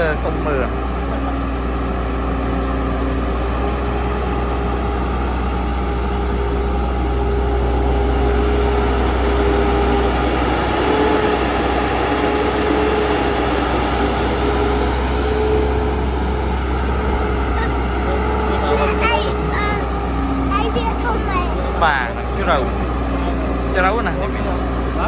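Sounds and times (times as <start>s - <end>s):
heavy engine rumbling and whining: 0.0s - 25.0s.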